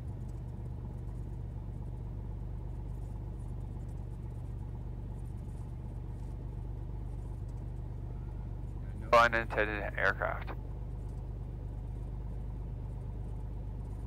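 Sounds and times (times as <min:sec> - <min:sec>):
aircraft engine low hum: 0:00.0 - 0:14.0.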